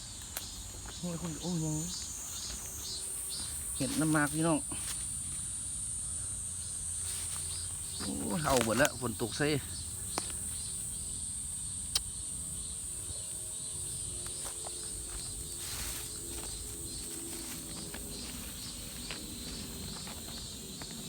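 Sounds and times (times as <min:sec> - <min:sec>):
insects chorus: 0:00.0 - 0:21.0.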